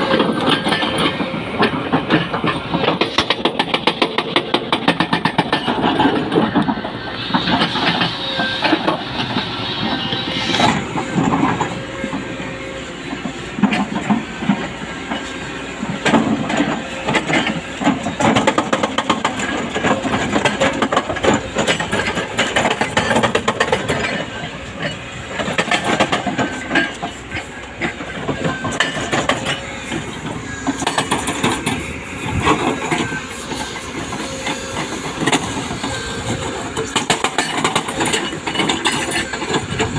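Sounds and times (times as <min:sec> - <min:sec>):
hydraulic breaker hammering rock: 0:00.0 - 0:12.3, 0:13.1 - 0:39.9
diesel engine running: 0:00.0 - 0:39.9.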